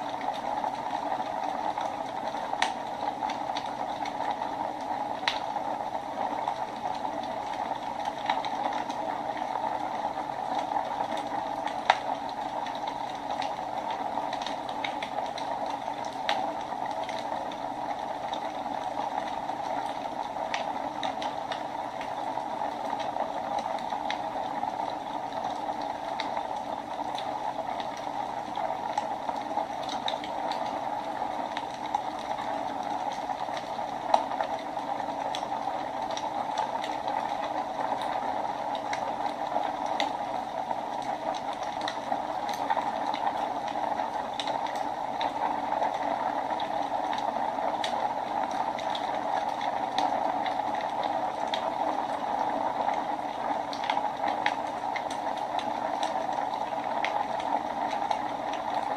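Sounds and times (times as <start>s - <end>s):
fire crackles and pops: 0.0s - 58.9s
wood fire hissing: 0.0s - 58.9s.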